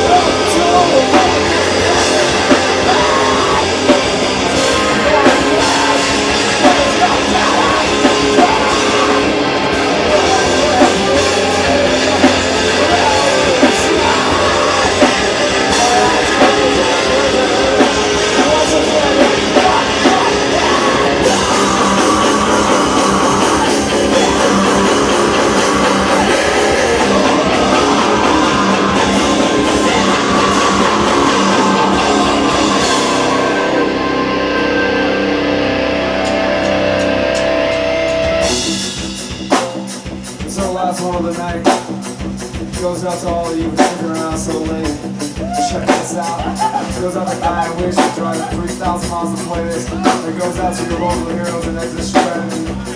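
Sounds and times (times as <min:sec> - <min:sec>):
heavy rock band playing live: 0:00.0 - 0:52.9.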